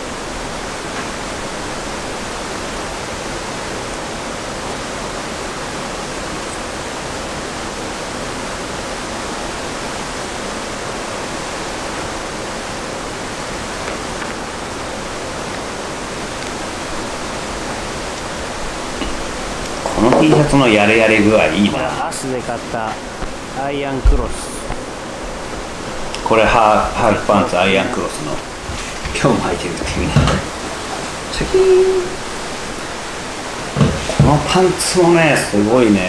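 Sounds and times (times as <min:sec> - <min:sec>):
steady rushing noise: 0:00.0 - 0:36.0.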